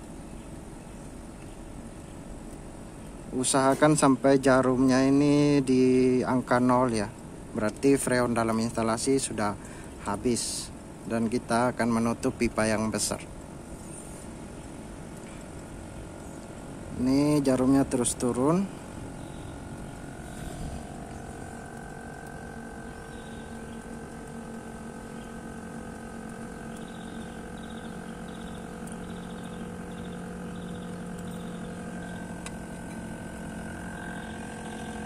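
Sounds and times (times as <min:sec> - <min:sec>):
air conditioner unit humming: 0:00.0 - 0:35.0.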